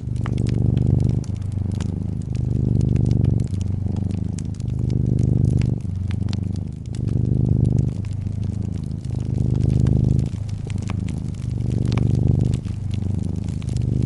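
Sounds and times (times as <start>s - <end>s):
cat purring: 0.0s - 14.0s
wood fire crackling and popping: 0.0s - 14.0s.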